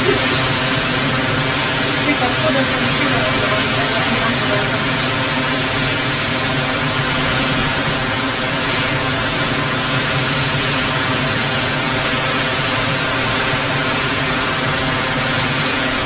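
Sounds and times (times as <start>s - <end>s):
heavy rain: 0.0s - 16.0s
strong wind: 0.0s - 16.0s.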